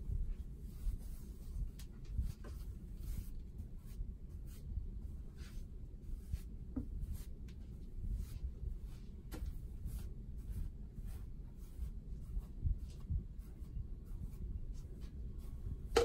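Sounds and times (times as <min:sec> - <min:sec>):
brush sweeping varnish: 0:00.1 - 0:16.0.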